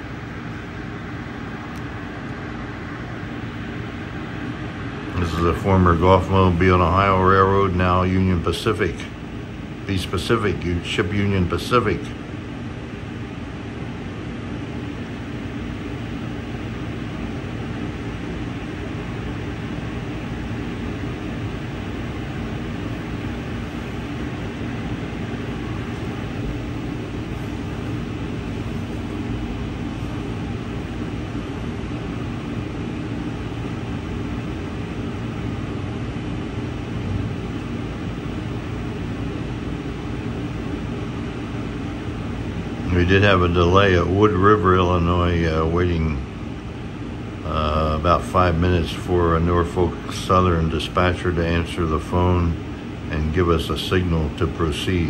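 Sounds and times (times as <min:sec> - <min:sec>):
train coach air-conditioning hum: 0:00.0 - 0:55.0.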